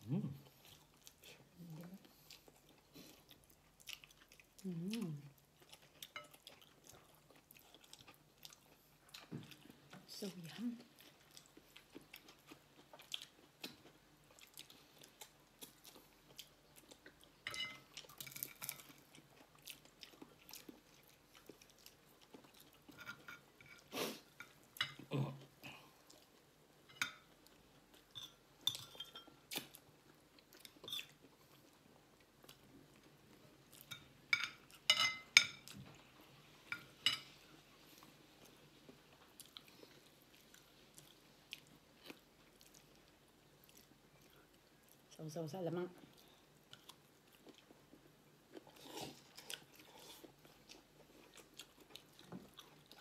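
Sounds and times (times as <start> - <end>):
people chewing and smacking: 0.4 - 45.1, 46.0 - 53.0.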